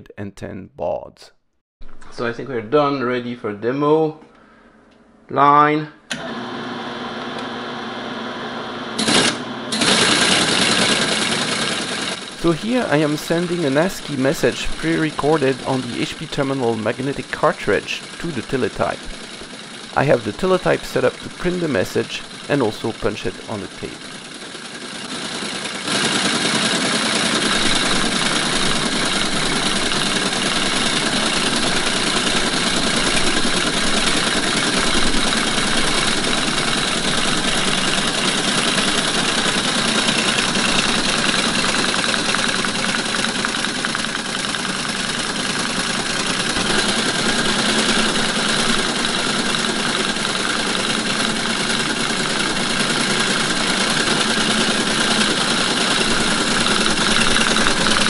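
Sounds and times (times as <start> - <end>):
teletype printer clattering: 9.0 - 58.0.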